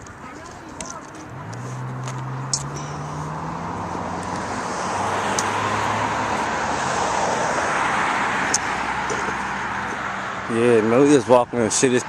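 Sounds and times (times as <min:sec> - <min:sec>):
tyre road noise: 0:00.0 - 0:12.0
vehicle engine hum: 0:00.0 - 0:12.0.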